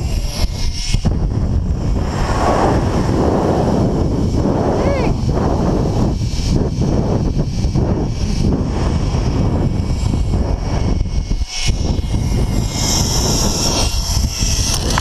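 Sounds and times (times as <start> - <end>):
high steady whine from trolley: 0.0 - 15.0
pulleys running along cable: 0.0 - 15.0
wind rushing over microphone: 0.0 - 15.0.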